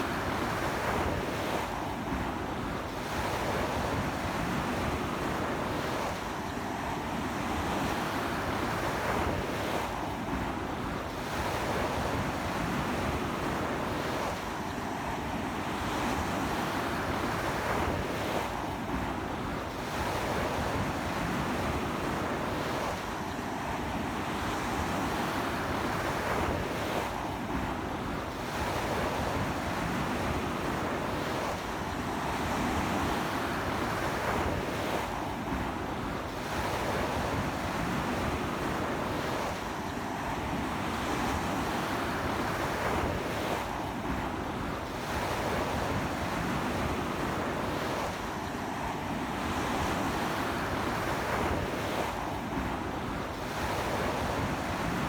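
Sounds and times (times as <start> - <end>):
strong sea wind: 0.0 - 55.0.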